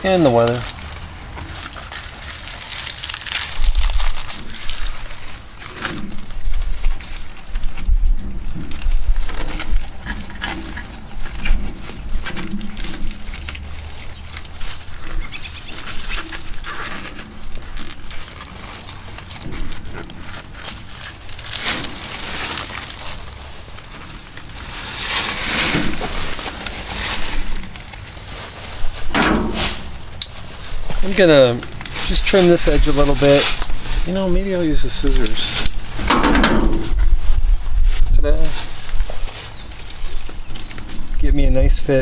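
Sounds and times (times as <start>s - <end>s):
dry leaves crackling and rustling: 0.0s - 42.0s.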